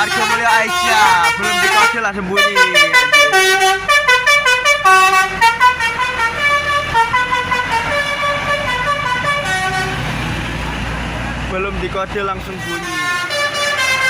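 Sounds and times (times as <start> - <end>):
bus air horn melody: 0.0 - 10.1, 12.5 - 14.0.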